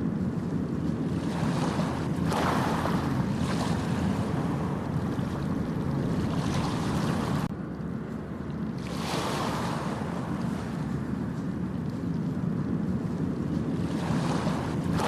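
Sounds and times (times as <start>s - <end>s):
ocean waves washing onto beach: 0.0s - 15.0s.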